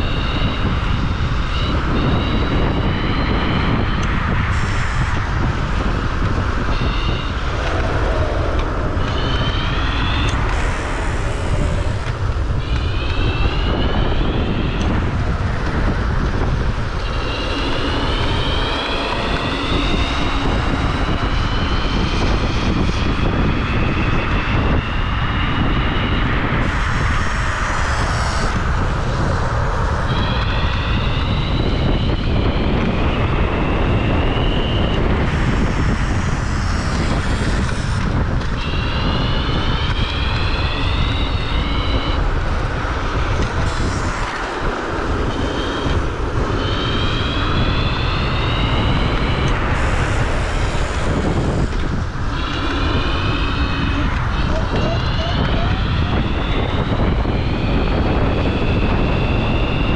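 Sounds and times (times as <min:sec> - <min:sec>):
electric scooter motor whine: 0:00.0 - 0:59.9
wind noise: 0:00.0 - 0:59.9.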